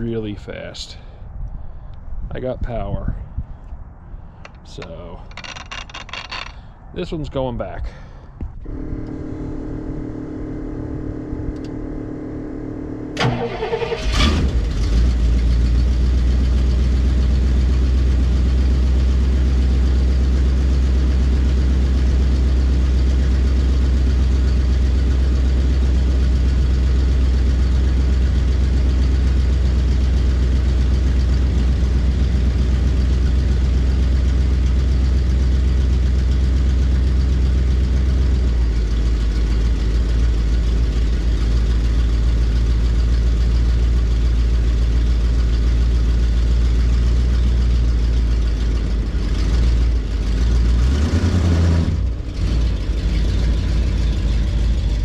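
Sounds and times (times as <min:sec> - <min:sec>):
engine idling: 0:08.6 - 0:55.0.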